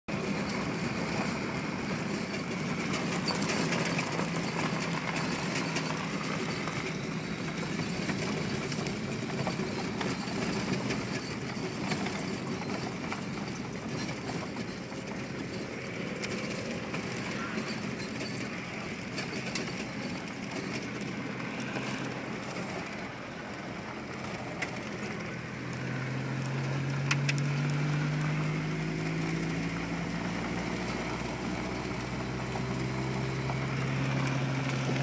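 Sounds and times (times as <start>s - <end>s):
road noise: 0.0s - 35.0s
vehicle engine hum: 0.0s - 35.0s
tyres clicking on gravel: 0.2s - 35.0s.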